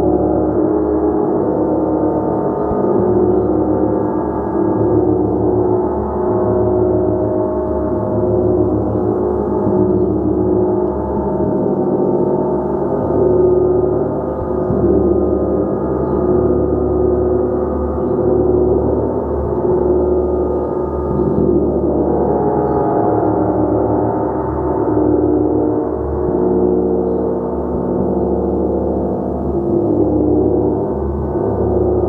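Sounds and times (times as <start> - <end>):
gong ringing: 0.0 - 32.0.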